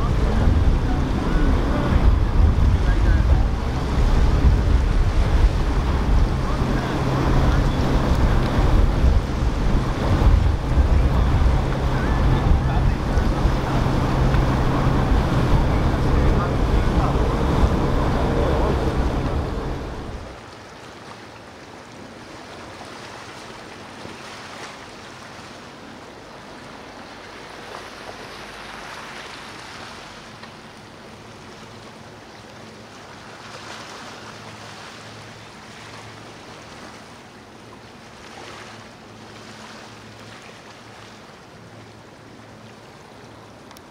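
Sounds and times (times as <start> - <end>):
boat engine: 0.0 - 43.9
surf: 0.0 - 43.9
wind: 0.0 - 43.9.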